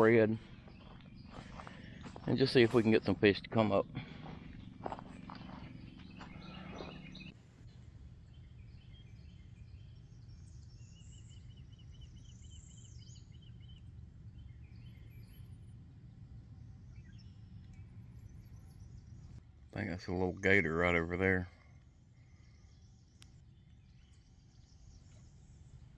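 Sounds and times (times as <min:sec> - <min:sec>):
bird calls and chirps: 0:00.0 - 0:25.9
steady low rumble: 0:00.0 - 0:25.9.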